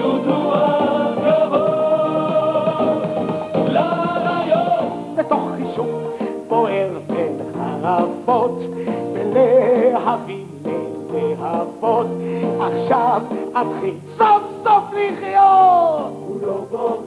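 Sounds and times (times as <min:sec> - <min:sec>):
band accompaniment: 0:00.0 - 0:17.0.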